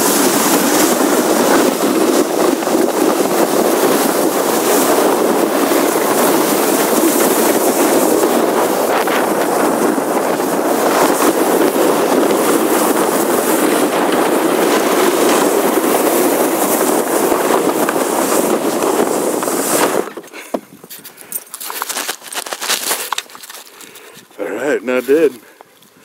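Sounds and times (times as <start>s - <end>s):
sled scraping over snow: 0.0s - 25.4s.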